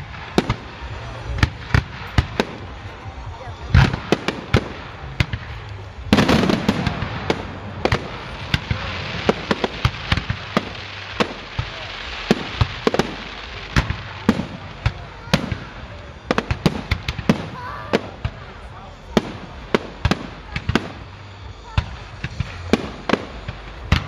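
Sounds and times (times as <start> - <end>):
fireworks bursting: 0.0 - 24.0
fireworks crackling: 0.0 - 24.0.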